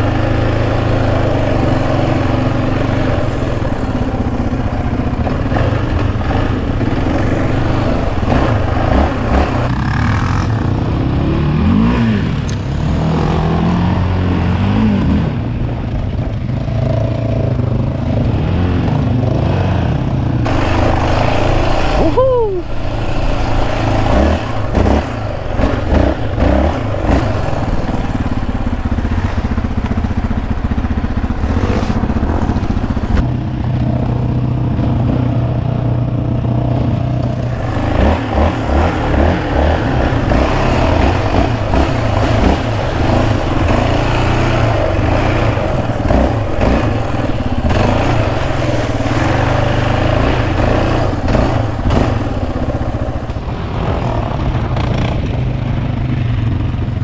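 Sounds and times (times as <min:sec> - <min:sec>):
atv engine revving: 0:00.0 - 0:57.0
vehicle rattling over rough ground: 0:00.0 - 0:57.0.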